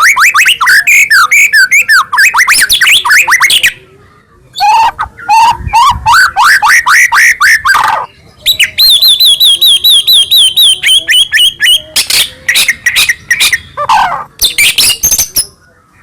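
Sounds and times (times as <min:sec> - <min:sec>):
bird singing whistled notes: 0:00.0 - 0:03.8, 0:04.5 - 0:16.0.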